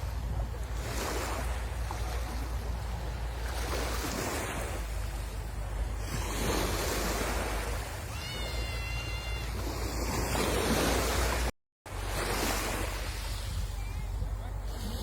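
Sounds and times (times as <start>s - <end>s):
sea waves breaking on shore: 0.0s - 15.0s
wind rumbling on microphone: 0.0s - 15.0s.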